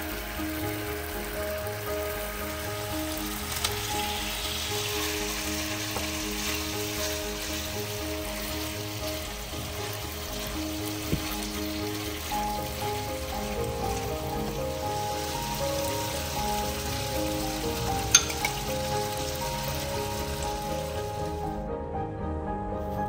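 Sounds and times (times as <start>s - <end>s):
food sizzling in hot oil: 0.0s - 21.6s.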